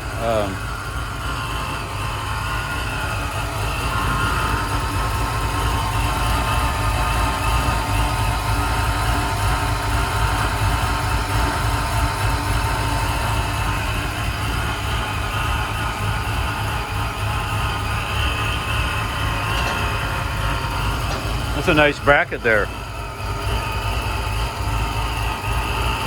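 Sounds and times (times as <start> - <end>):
car engine running smoothly: 0.0 - 26.0.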